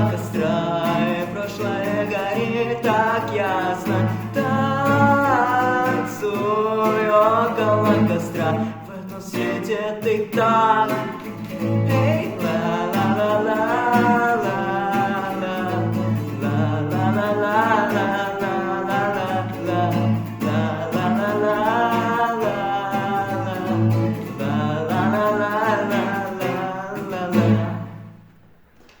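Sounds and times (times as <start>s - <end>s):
person singing: 0.0s - 27.9s
acoustic guitar: 0.0s - 29.0s.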